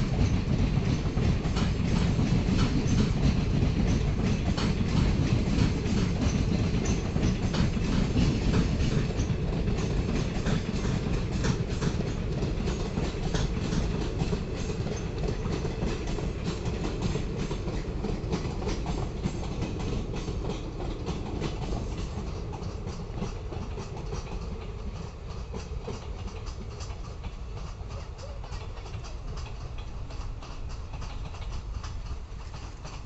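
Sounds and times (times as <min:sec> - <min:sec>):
train wheels clickety-clack: 0:00.0 - 0:33.0.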